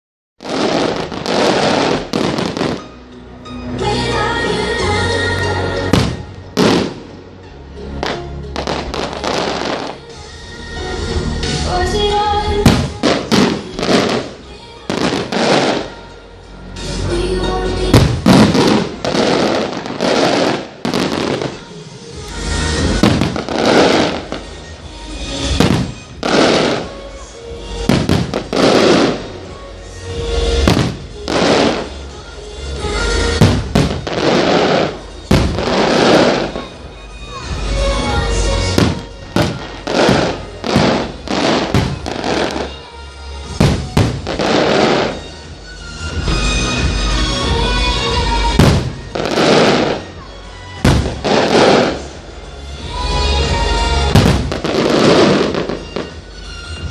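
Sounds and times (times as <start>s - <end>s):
fireworks bangs: 0.4s - 3.0s, 5.8s - 7.3s, 8.0s - 10.3s, 11.4s - 16.2s, 17.8s - 56.9s
fireworks crackling: 0.4s - 3.1s, 5.4s - 56.9s.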